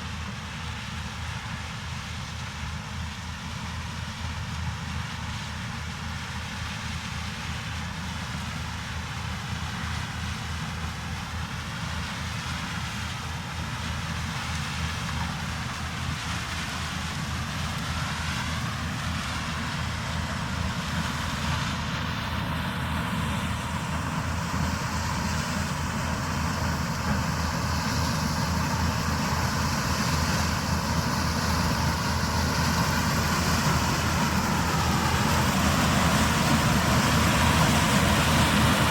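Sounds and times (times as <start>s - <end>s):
farm machinery engine running: 0.0s - 38.9s.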